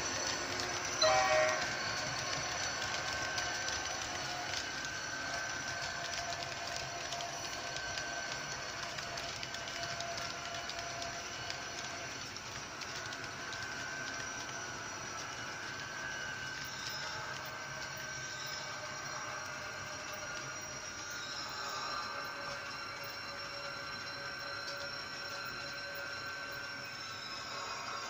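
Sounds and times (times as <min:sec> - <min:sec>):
faint high whine: 0:00.0 - 0:28.0
model train wheels clicking: 0:00.0 - 0:28.0.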